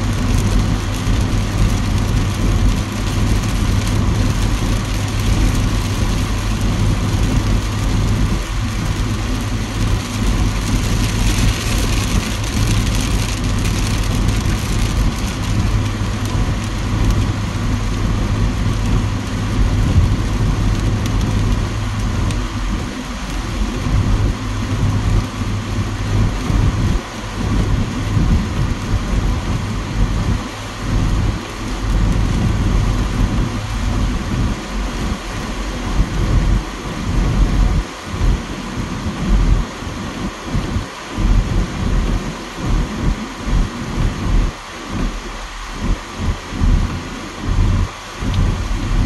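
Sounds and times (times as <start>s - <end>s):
heavy rain on a car: 0.0s - 49.0s
low rumbles: 0.0s - 49.0s
steady low hum: 0.0s - 49.0s.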